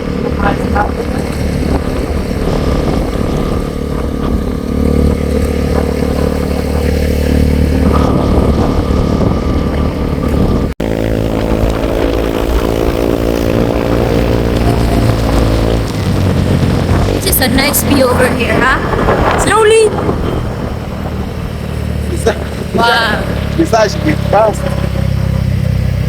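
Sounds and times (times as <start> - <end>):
road and wind noise: 0.0 - 26.0
vehicle engine running: 0.0 - 26.0.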